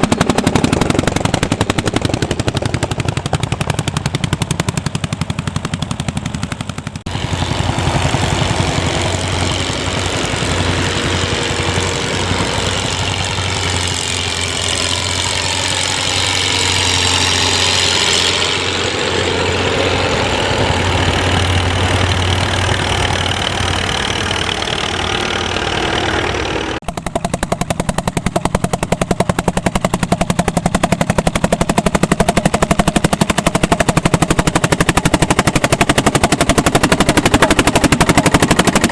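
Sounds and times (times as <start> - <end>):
tractor engine exhaust beat: 0.0 - 38.9.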